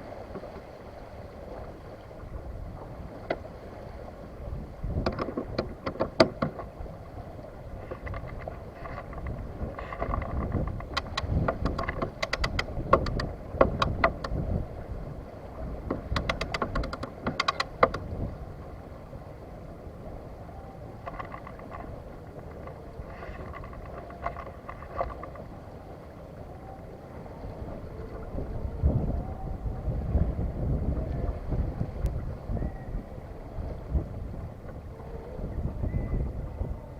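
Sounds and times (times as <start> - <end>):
wind buffeting microphone: 1.7 - 25.8, 27.2 - 36.9.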